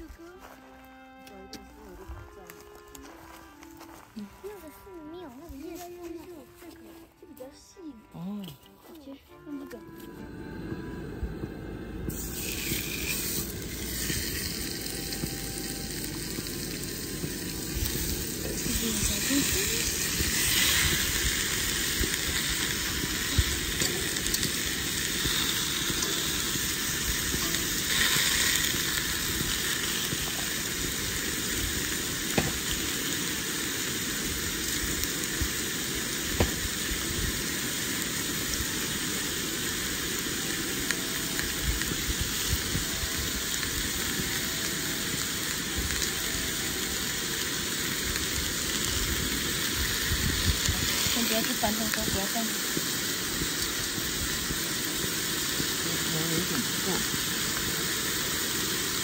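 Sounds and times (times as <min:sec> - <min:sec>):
steaks sizzling in hot oil: 0:11.4 - 0:59.0.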